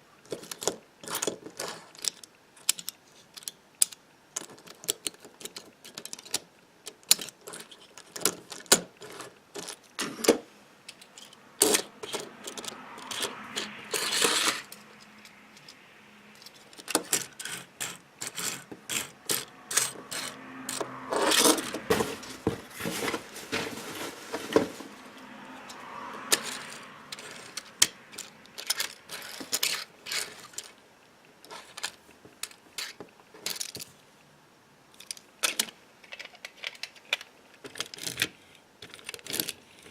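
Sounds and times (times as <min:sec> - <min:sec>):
toy cars clicking and clinking: 0:00.2 - 0:22.5, 0:25.6 - 0:30.8, 0:31.4 - 0:33.9, 0:35.0 - 0:39.9
toy cars rattling and scraping: 0:00.2 - 0:30.8, 0:31.4 - 0:34.0, 0:35.0 - 0:39.9.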